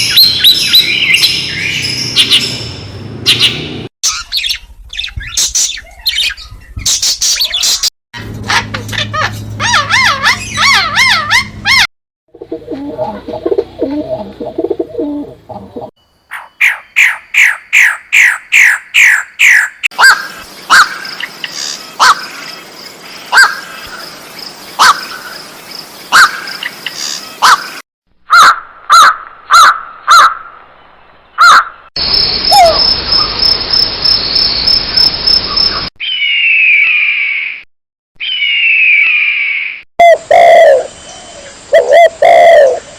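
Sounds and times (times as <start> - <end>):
birds chirping and trilling: 0.0 - 7.9, 8.5 - 11.9, 13.0 - 42.9.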